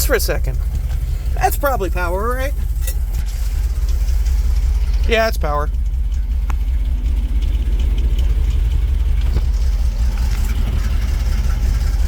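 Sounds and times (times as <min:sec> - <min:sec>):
engine idling roughly: 0:00.0 - 0:12.0.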